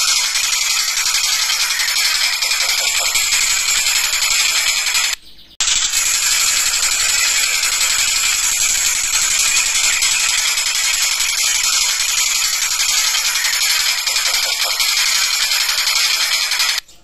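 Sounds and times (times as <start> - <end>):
kingfisher rattling chatter: 0.0 - 16.8.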